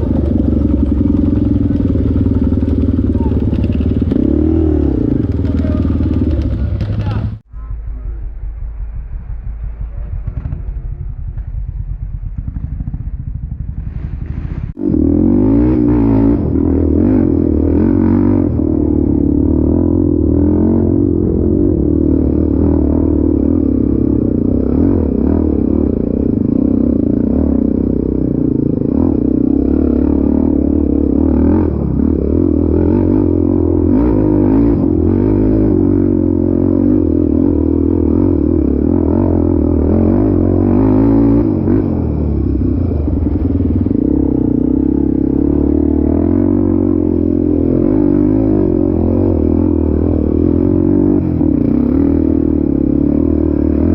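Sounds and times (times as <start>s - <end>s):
atv engine running: 0.0s - 7.5s, 8.5s - 53.9s.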